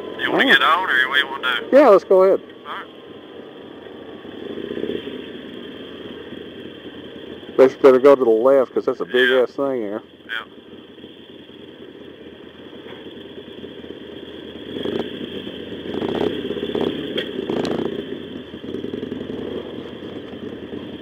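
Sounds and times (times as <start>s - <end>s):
motorcycles running at low speed: 0.0s - 21.0s.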